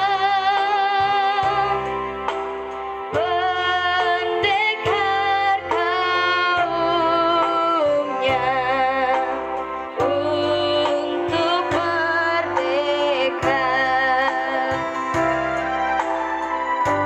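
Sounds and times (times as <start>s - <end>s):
woman singing with vibrato: 0.0s - 2.0s, 3.2s - 16.0s
sustained accompaniment: 1.3s - 17.0s.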